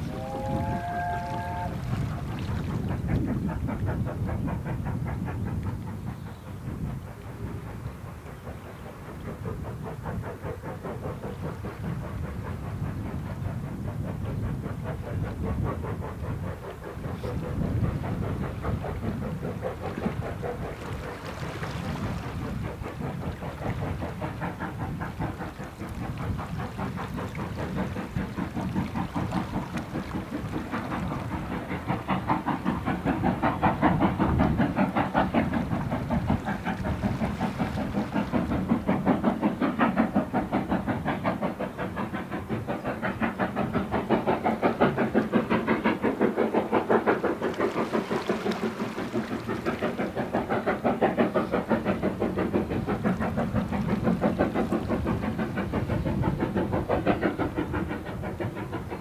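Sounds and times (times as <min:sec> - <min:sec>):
steam locomotive exhaust beats: 0:00.0 - 0:59.0.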